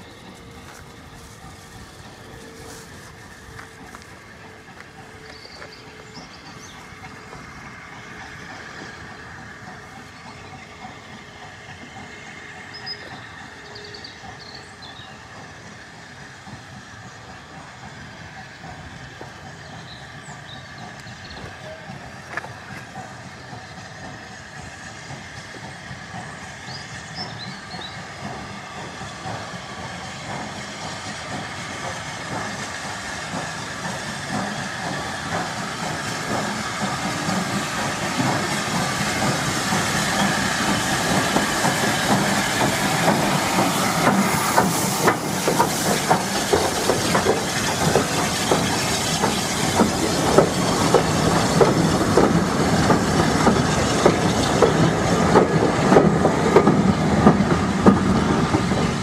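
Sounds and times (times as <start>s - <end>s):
hiss of steam: 0.0s - 59.0s
steam locomotive hauling a train: 0.0s - 59.0s.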